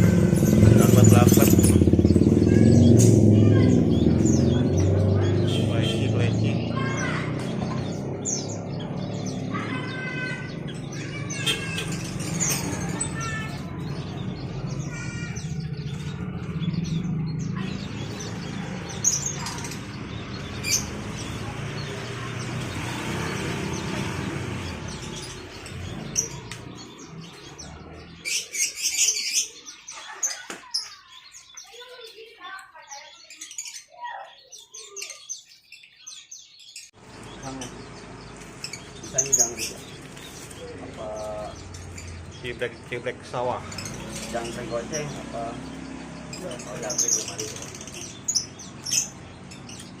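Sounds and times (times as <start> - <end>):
songbirds chirping and whistling: 0.0 - 50.0.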